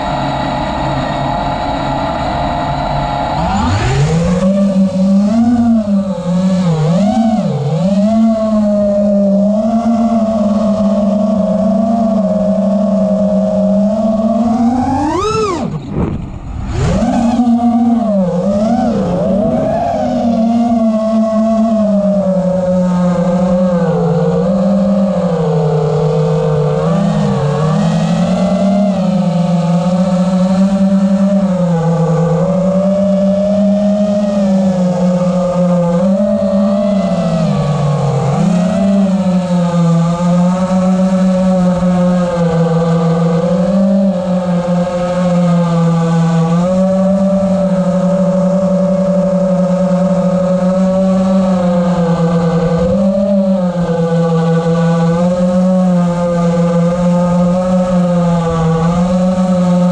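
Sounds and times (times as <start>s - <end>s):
car engine revving: 0.0s - 59.9s
quadcopter motors droning: 0.0s - 59.9s.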